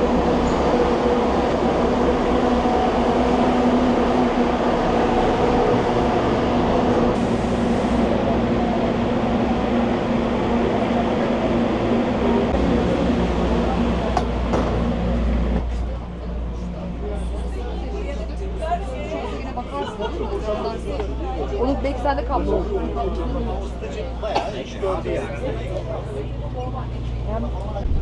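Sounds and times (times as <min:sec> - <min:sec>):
train rumbling inside carriage: 0:00.0 - 0:28.0.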